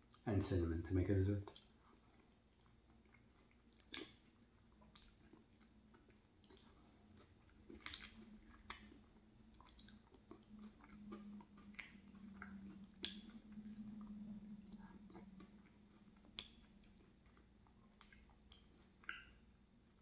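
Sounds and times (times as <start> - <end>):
soft chewing and mouth sounds: 0.0 - 20.0.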